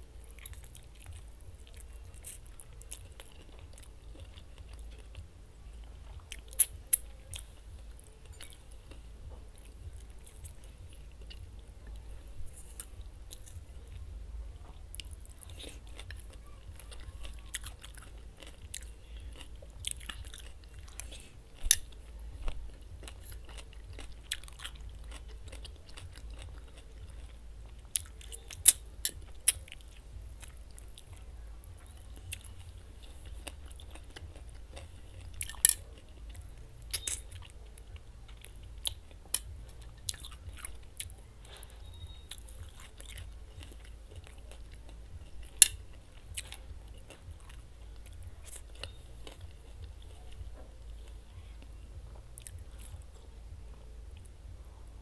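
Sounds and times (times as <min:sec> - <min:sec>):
person chewing crunchy salad: 0:00.0 - 0:54.3.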